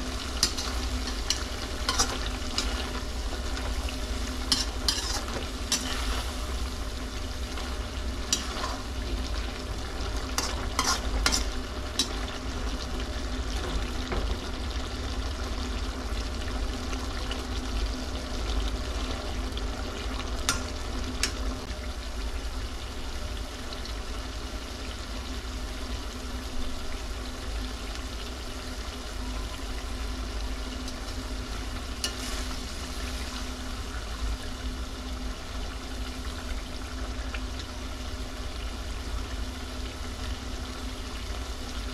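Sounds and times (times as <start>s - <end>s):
liver sizzling in a pan: 0.0s - 41.9s.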